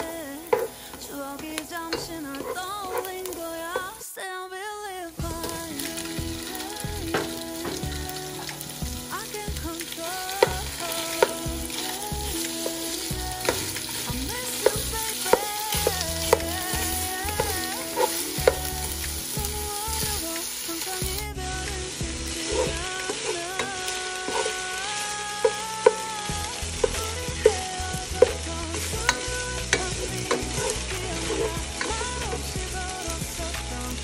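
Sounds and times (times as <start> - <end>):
soft background music: 0.0 - 34.0
meat sizzling in hot oil: 5.2 - 34.0.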